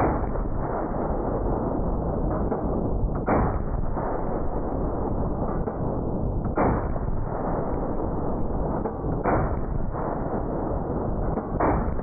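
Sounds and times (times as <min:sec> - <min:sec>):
rifle shots: 0:00.0 - 0:12.0.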